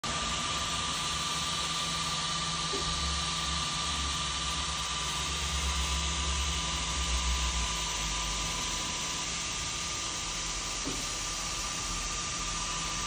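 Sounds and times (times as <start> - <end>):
cooling fans whirring: 0.0 - 13.0
thin steady whine: 0.0 - 13.0.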